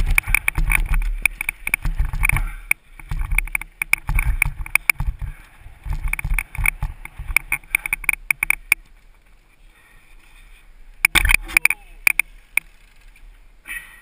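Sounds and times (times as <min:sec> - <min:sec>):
bike rattling over rocky trail: 0:00.0 - 0:09.5, 0:11.0 - 0:13.5.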